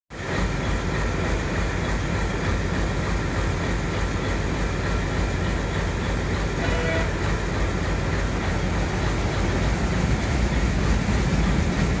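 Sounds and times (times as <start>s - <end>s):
train rumbling on rails: 0.1s - 12.0s.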